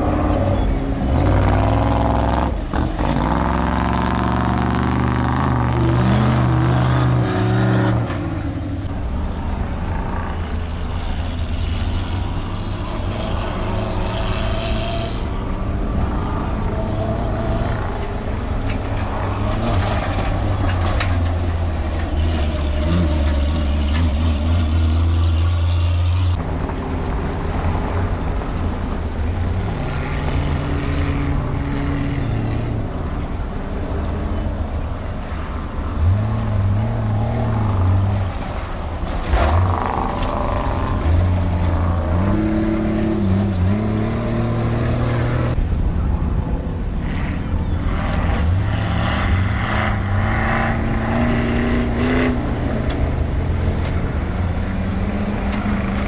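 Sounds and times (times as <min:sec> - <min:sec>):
race vehicle engines revving: 0:00.0 - 0:56.0.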